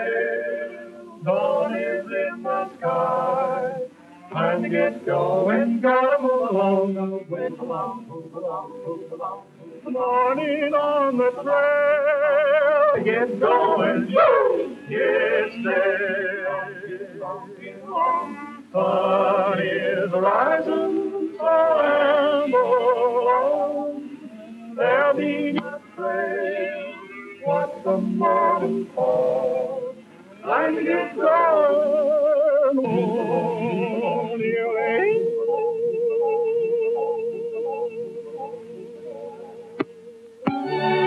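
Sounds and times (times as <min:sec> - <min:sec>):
person singing with vibrato: 0:00.0 - 0:41.0.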